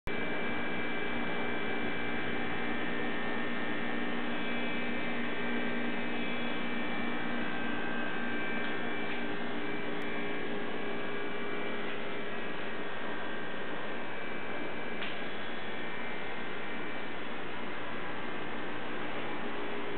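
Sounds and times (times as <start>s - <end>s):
electrical hum: 0.1s - 19.9s.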